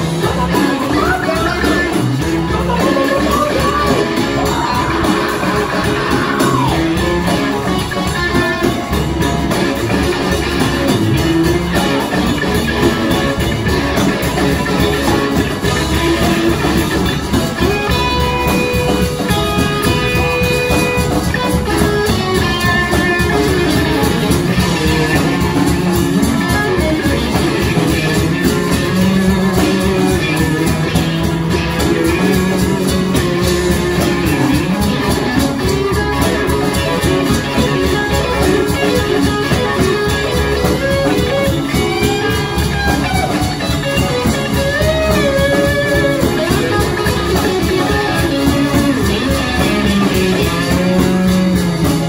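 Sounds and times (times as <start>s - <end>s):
bass guitar: 0.0s - 52.0s
drum kit: 0.0s - 52.0s
electric guitars: 0.0s - 52.0s.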